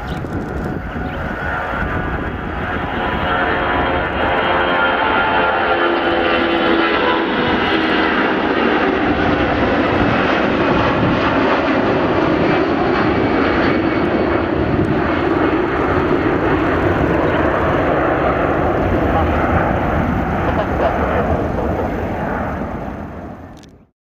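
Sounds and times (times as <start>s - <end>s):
jet engines roaring: 0.0s - 23.9s.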